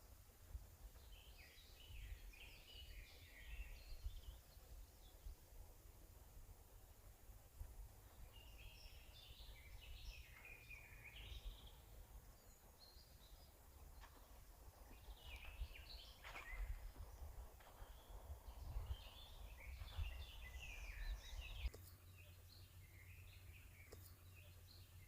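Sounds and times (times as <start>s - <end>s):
steady low rumble: 0.0s - 21.8s
faint twittering birdsong: 0.0s - 25.0s.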